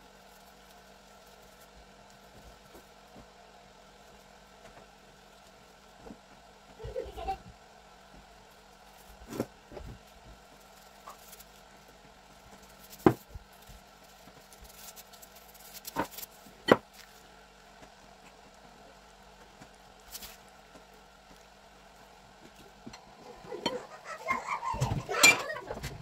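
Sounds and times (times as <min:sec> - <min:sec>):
faint steady hiss: 0:00.0 - 0:23.5.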